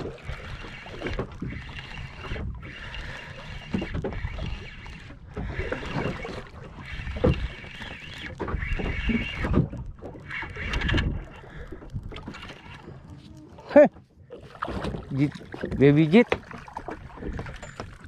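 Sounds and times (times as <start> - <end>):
water sloshing against boat hull: 0.0 - 18.0.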